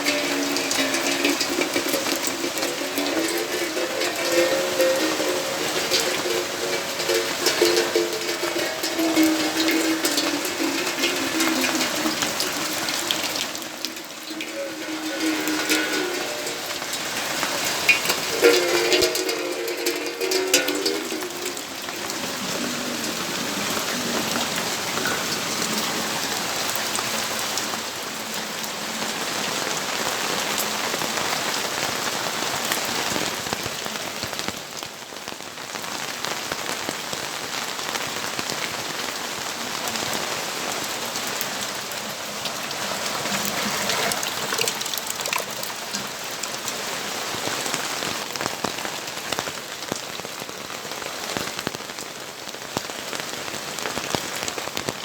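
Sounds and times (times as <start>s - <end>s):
rain pattering on hard surfaces: 0.0s - 55.0s.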